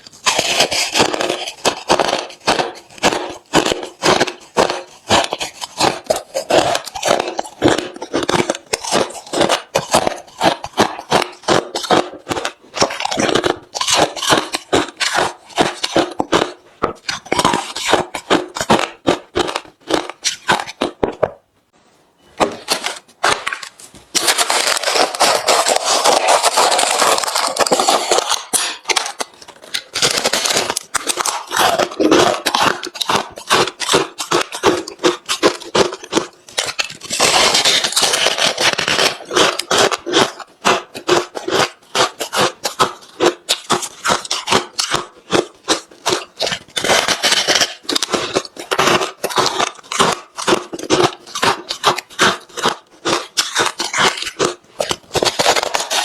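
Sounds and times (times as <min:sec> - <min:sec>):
chewing crushed ice: 0:00.0 - 0:21.4, 0:22.4 - 0:56.0.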